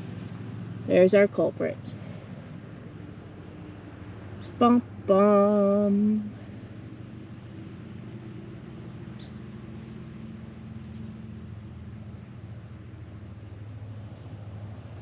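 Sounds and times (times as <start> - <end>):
insects trilling: 0.0 - 15.0
steady low hum: 0.0 - 15.0.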